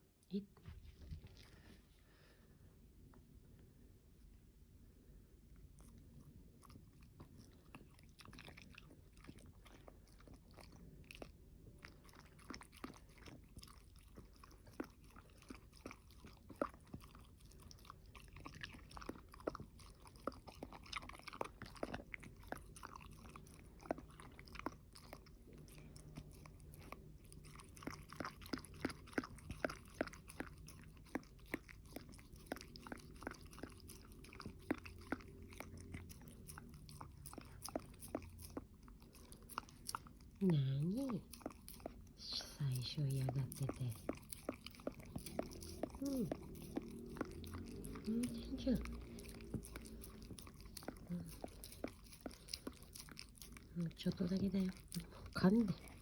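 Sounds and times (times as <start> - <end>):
crunchy chewing of food: 5.5 - 56.0.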